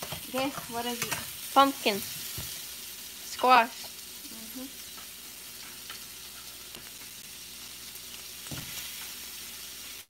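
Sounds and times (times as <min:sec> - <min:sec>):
vegetables sizzling in skillet: 0:00.0 - 0:10.0.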